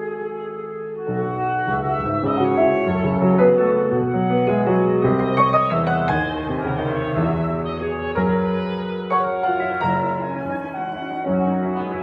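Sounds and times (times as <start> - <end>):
held wind instrument notes: 0.0 - 12.0.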